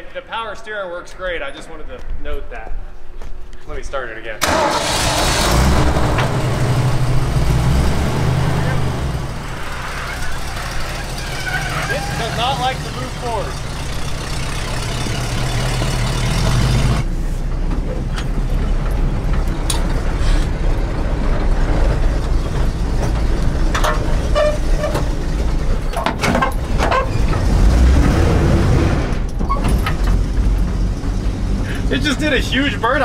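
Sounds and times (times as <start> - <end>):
truck engine running: 4.4 - 33.0.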